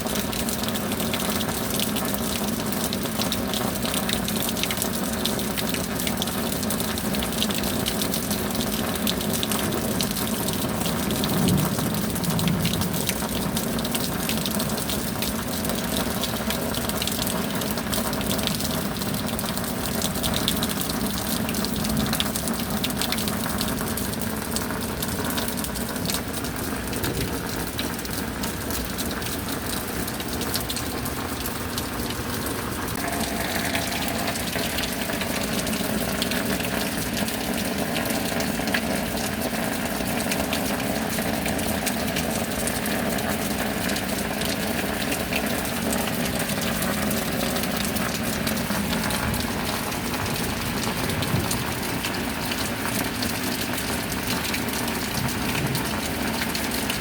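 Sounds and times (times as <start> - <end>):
steady rain: 0.0 - 57.0
water pouring: 0.0 - 57.0.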